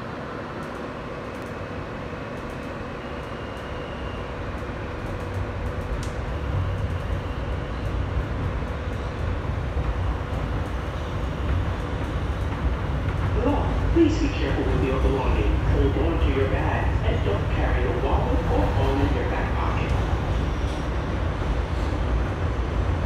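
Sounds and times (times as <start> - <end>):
subway train wheels and motors rumbling: 0.0 - 23.0.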